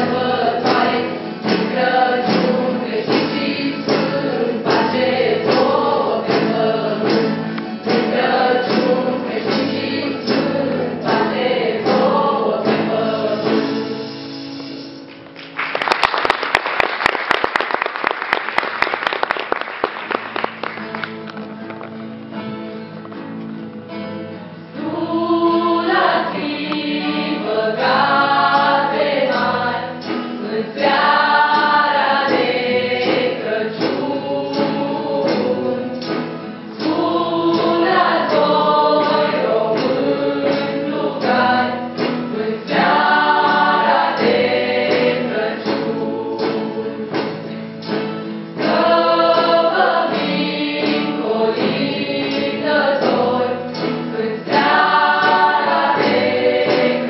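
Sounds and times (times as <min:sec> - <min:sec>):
folk choir singing: 0:00.0 - 0:14.3, 0:24.7 - 0:57.0
strummed acoustic guitars: 0:00.0 - 0:15.6, 0:20.0 - 0:57.0.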